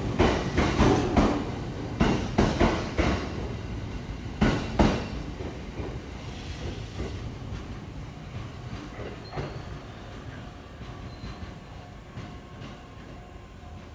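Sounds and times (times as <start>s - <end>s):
train rumble: 0.0s - 13.9s
train wheels clacking: 0.0s - 13.9s.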